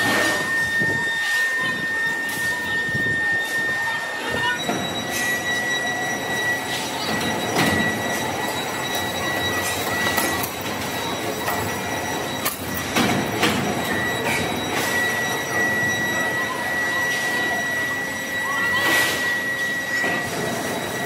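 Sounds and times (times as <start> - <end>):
factory machinery whining: 0.0 - 21.0.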